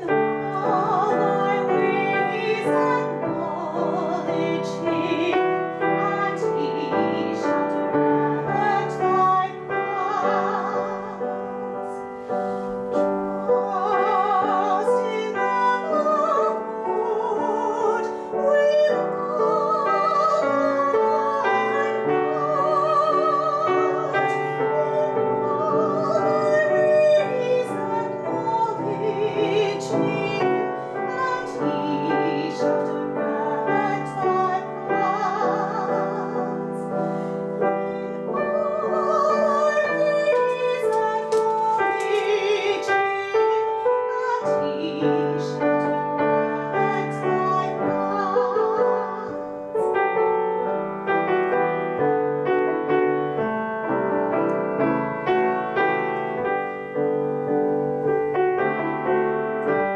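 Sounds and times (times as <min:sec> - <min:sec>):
grand piano: 0:00.0 - 0:59.9
woman singing classical with vibrato: 0:00.0 - 0:59.9.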